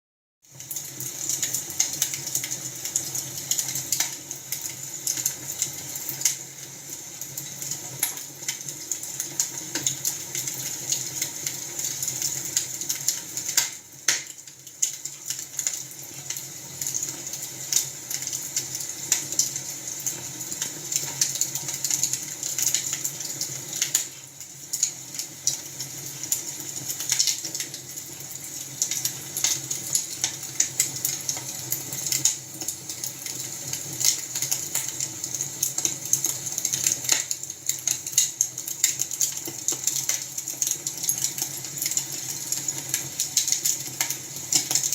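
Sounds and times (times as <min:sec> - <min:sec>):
wood fire crackling: 0:00.5 - 0:44.9.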